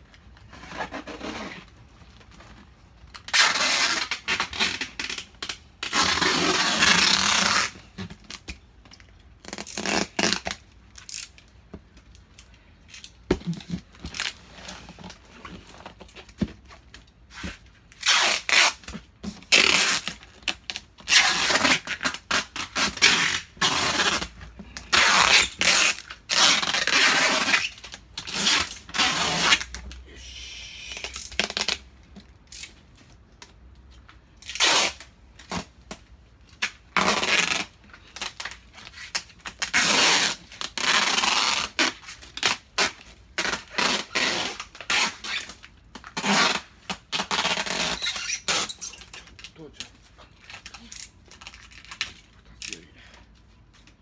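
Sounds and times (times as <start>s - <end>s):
packing tape pulled off roll: 0.1s - 30.0s, 30.8s - 52.8s.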